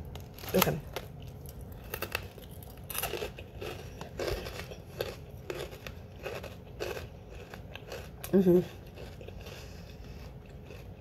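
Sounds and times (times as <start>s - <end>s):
crunchy breadstick chewing: 0.0s - 11.0s.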